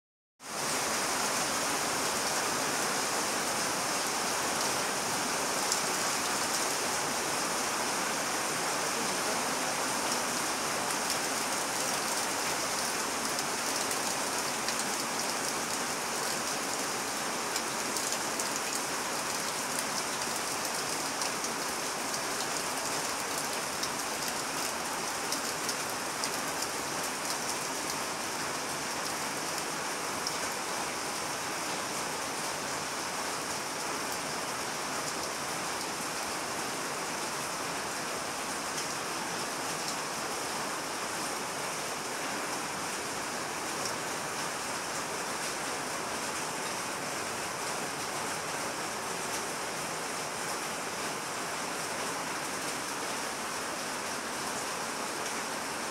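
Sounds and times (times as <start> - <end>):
steady rain falling: 0.4 - 55.9.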